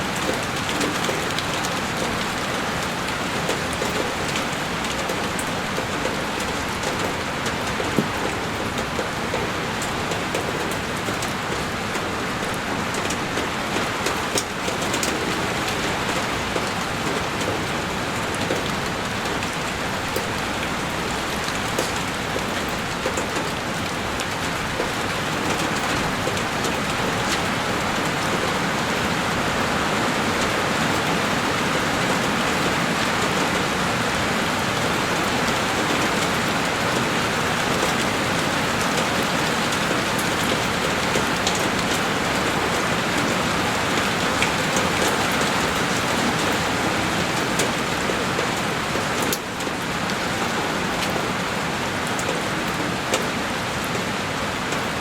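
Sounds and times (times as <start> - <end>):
heavy rain on window: 0.0 - 55.0.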